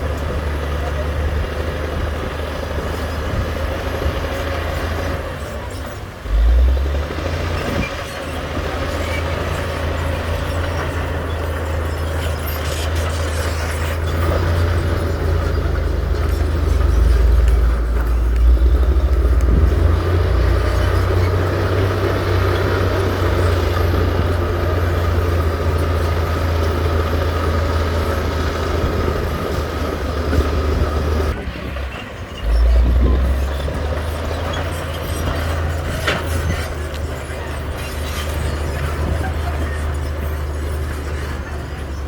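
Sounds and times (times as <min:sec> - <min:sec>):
heavy diesel engine rumbling: 0:00.0 - 0:42.0.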